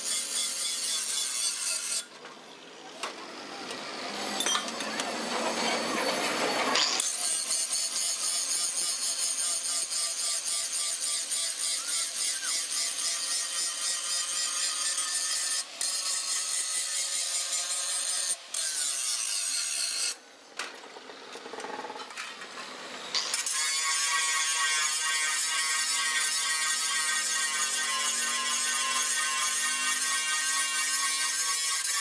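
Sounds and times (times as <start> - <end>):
angle grinder grinding metal: 0.0 - 2.1, 3.7 - 20.2, 21.4 - 32.0.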